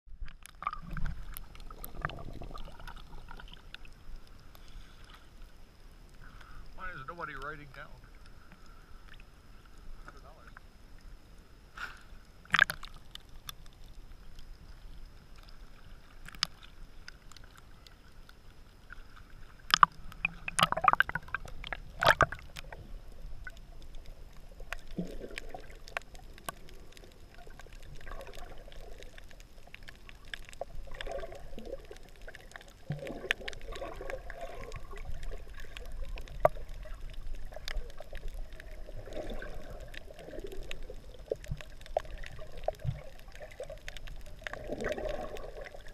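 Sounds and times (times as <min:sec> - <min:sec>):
muffled water sloshing underwater: 0:00.1 - 0:45.9.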